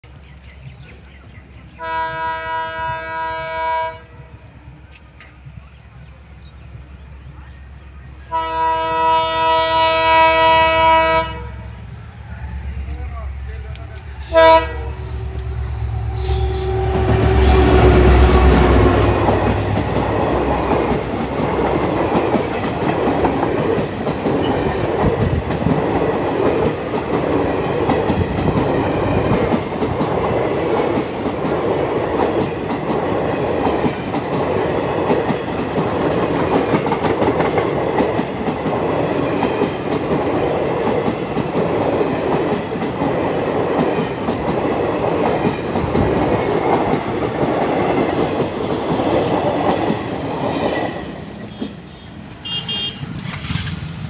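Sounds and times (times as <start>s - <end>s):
diesel locomotive rumbling: 0.0s - 54.0s.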